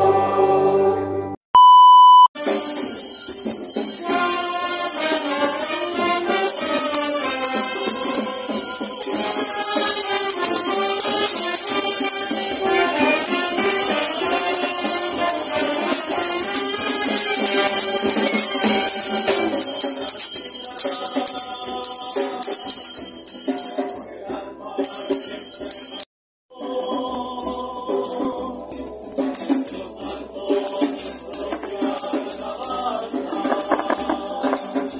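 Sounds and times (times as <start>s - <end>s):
voices singing a hymn: 0.0s - 1.4s, 2.4s - 23.0s, 23.6s - 25.6s, 26.5s - 34.9s
jingling percussion: 2.4s - 34.9s.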